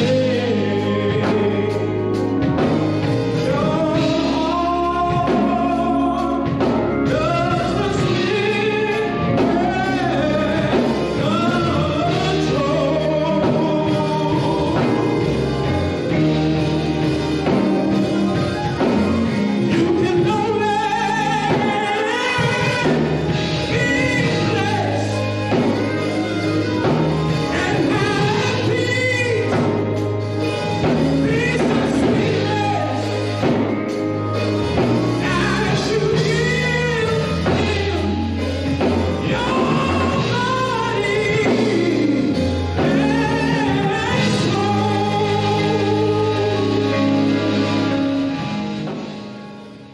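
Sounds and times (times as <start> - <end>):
gospel singing: 0.0 - 49.9
instrumental accompaniment: 0.0 - 49.9.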